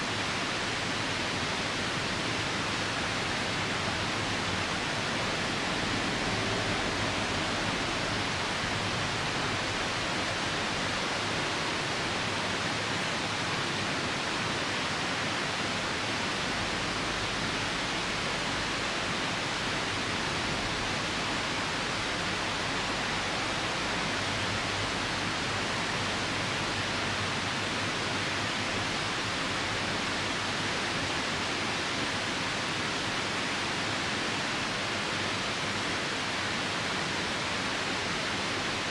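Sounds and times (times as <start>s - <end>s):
rain: 0.0s - 38.9s
river rushing: 0.0s - 38.9s.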